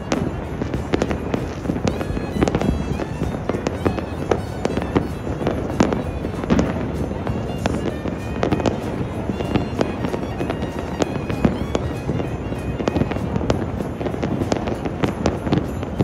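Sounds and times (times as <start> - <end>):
distant fireworks rumble: 0.0 - 16.0
sharp firecracker bangs: 0.0 - 16.0.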